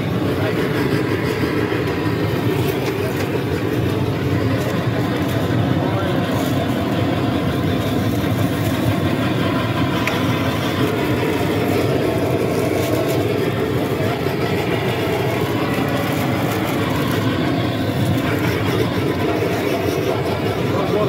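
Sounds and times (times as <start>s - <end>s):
gas blowtorch burning: 0.0s - 21.0s
steady background noise: 0.0s - 21.0s.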